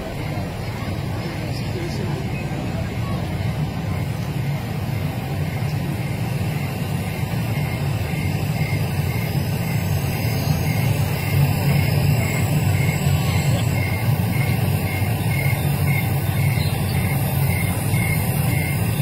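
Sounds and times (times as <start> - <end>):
low city rumble: 0.0 - 19.0
traffic: 0.0 - 19.0.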